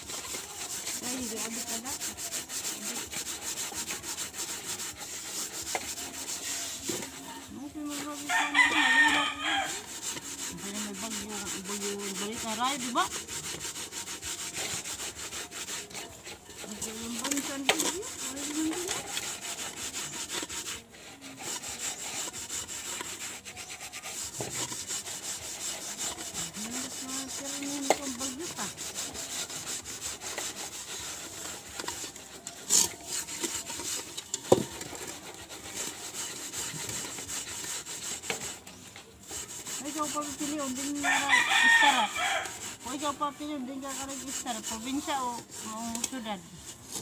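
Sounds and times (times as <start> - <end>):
scrubbing metal pot: 0.0 - 47.0.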